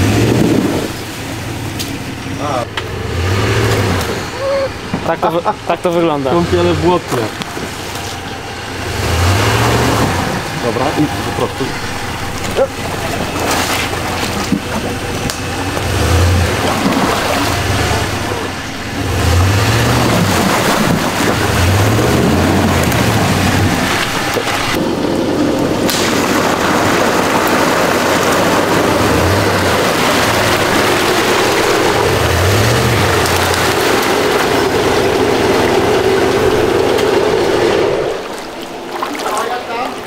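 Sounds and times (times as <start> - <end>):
engine rumble: 0.0 - 40.0
truck splashing through mud: 0.0 - 40.0.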